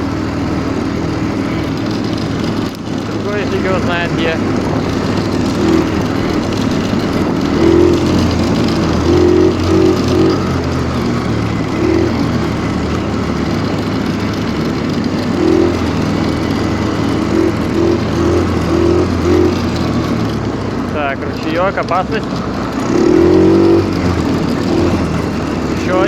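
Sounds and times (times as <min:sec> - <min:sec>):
snowmobile engine hum: 0:00.0 - 0:26.0.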